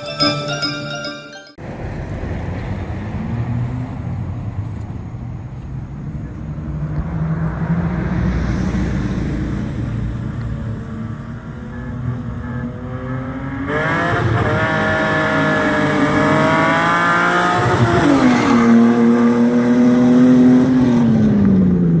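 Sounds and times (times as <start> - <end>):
cars racing past at full throttle: 1.6 - 22.0.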